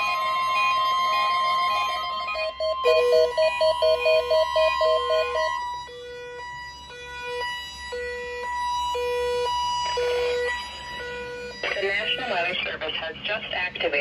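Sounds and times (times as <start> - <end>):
steady alarm tone: 0.0 - 13.1.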